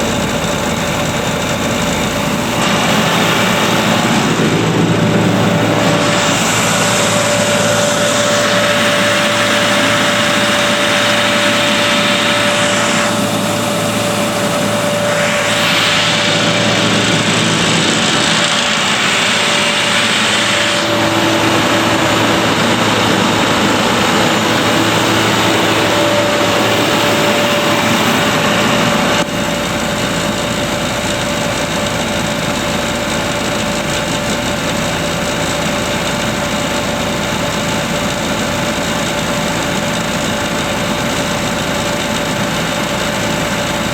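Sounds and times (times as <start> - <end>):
air compressor running: 0.0 - 43.9.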